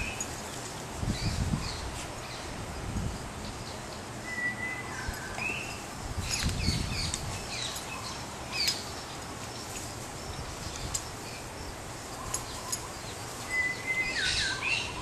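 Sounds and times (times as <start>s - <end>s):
birds chirping: 0.0s - 2.6s, 3.2s - 15.0s.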